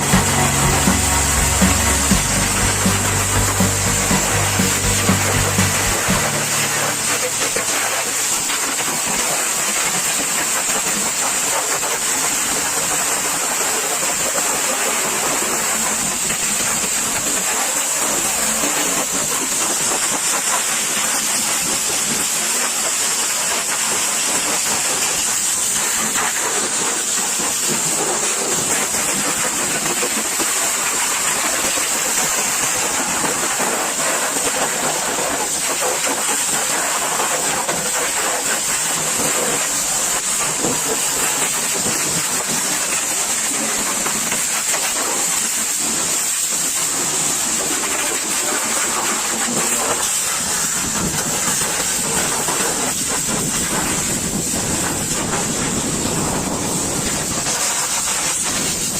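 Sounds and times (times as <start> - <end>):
pressure washer spraying water: 0.0 - 58.9.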